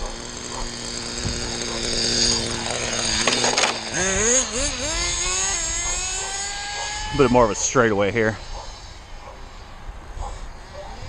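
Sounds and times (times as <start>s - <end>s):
model car engine revving: 0.0s - 11.0s.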